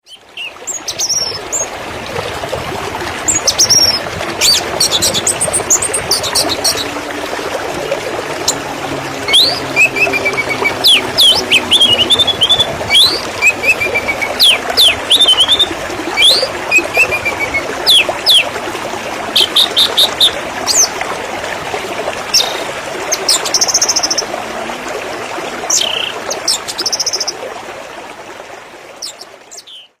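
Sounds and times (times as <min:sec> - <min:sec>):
running water rushing: 0:00.0 - 0:30.0.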